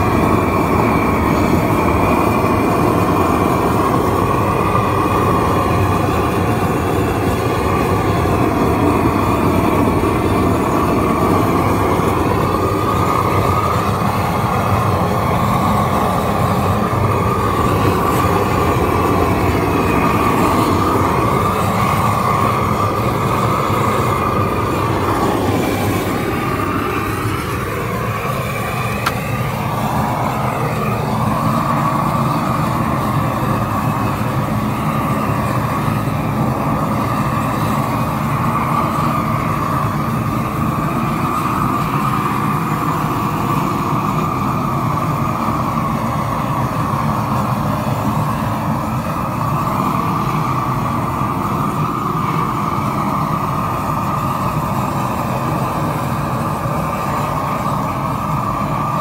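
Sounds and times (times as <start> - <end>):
roofing torch burning: 0.0 - 59.0.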